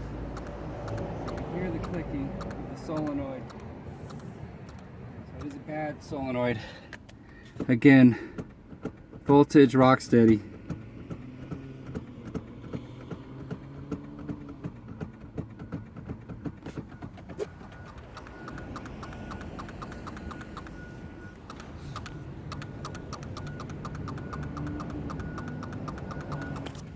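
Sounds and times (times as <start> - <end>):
starter solenoid clicking rapidly: 0.2 - 5.6, 7.9 - 20.8, 21.4 - 26.9.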